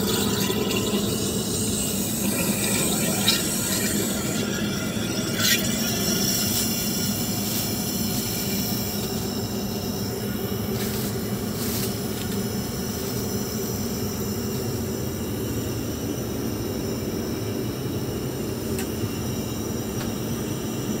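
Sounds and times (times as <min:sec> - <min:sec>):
airliner cabin rumble and hiss: 0:00.0 - 0:21.0.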